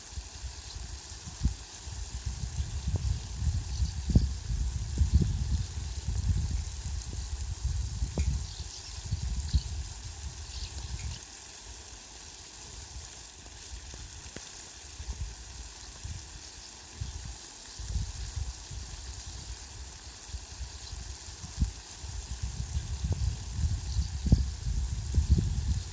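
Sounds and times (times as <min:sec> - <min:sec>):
rain falling: 0:00.5 - 0:25.9.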